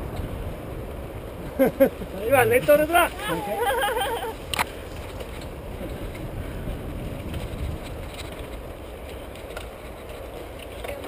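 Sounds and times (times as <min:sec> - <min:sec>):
bike rolling over dirt trail: 0:00.0 - 0:11.0
wind on microphone: 0:00.0 - 0:11.0.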